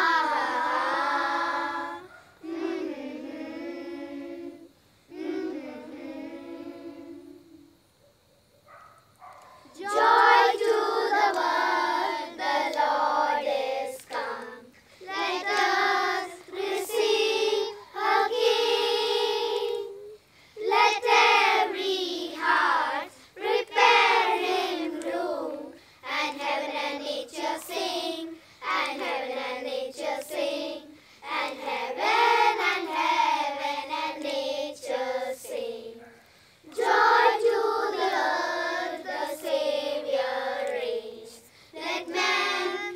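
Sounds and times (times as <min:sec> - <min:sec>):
children's choir singing carol: 0:00.0 - 0:07.9, 0:09.2 - 0:42.9.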